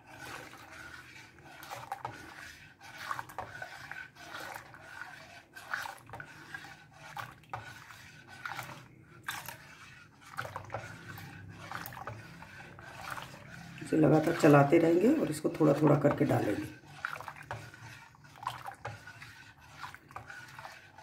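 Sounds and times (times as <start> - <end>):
spoon scraping steel pan: 0.0 - 21.0.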